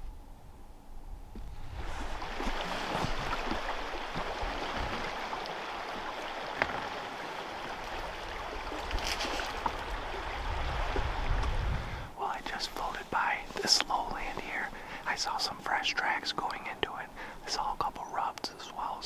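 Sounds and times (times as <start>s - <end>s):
river water rushing: 1.6s - 17.6s.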